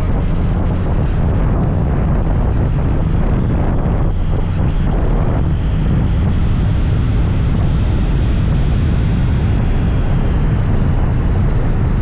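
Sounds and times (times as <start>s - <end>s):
scooter engine and road noise: 0.0s - 12.0s
wind buffeting microphone: 0.0s - 12.0s.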